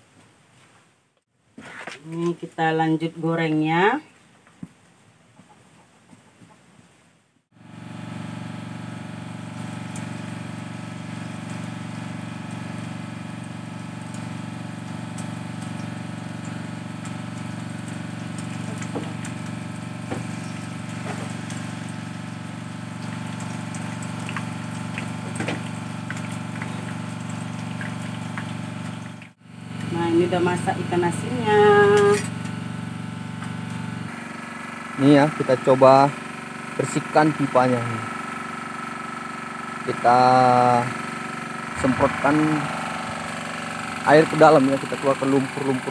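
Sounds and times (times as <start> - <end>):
small engine running: 7.6 - 45.9.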